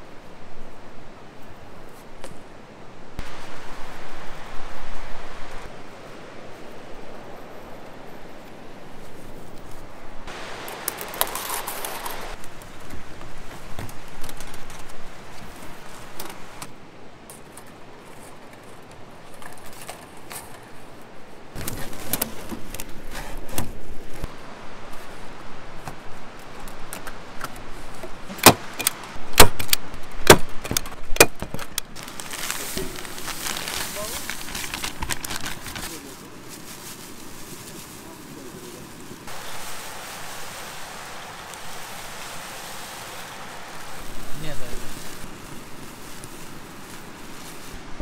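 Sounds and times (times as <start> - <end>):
rustling: 3.2 - 48.0.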